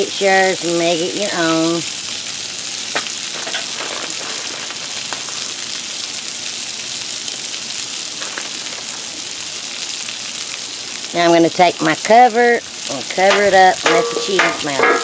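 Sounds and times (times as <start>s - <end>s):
meat patties sizzling on griddle: 0.0s - 15.0s.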